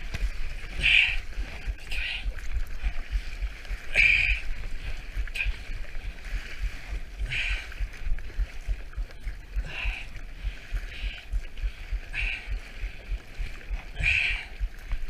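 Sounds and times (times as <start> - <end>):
paddle strokes splashing: 0.0 - 15.0
wind buffeting microphone: 0.0 - 15.0.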